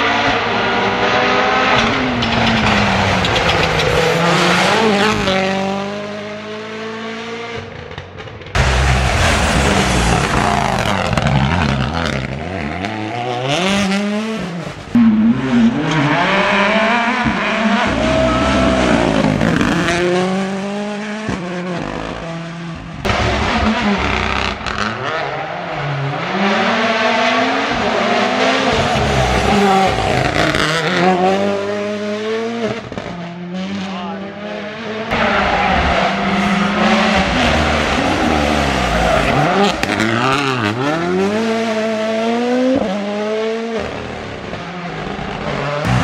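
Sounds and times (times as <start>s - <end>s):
rally car engines accelerating: 0.0s - 46.0s.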